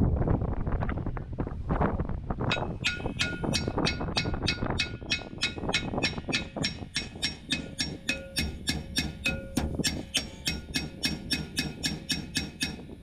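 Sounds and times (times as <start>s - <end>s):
hammer striking metal drum: 2.5s - 13.0s.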